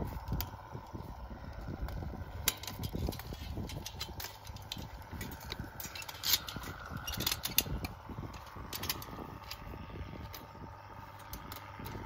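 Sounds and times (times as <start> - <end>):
wind rumble on microphone: 0.0 - 12.0
metallic clinks of fence wire: 0.3 - 12.0.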